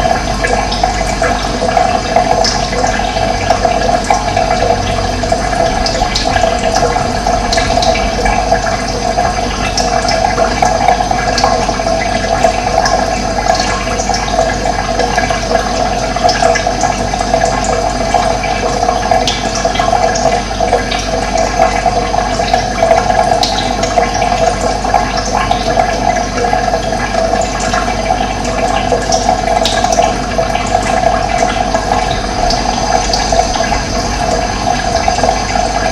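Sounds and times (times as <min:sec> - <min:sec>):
rushing water: 0:00.0 - 0:35.9.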